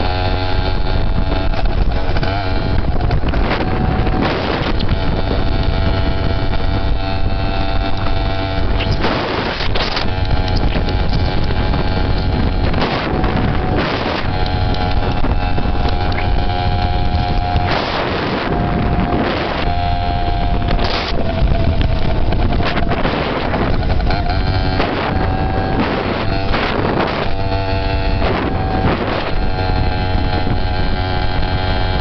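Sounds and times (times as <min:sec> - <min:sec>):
dirt bike engine running: 0:00.0 - 0:32.0
wind buffeting microphone: 0:00.0 - 0:32.0.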